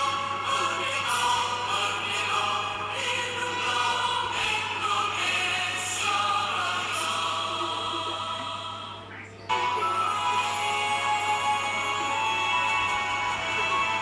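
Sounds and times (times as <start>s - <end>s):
steady low hum: 0.0s - 12.1s
choir singing sustained notes: 0.0s - 14.0s.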